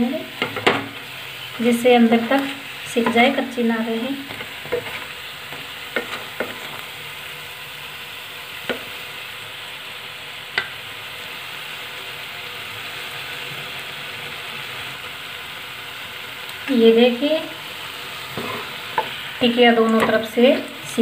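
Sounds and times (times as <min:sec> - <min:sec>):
patties sizzling in oil: 0:00.0 - 0:21.0.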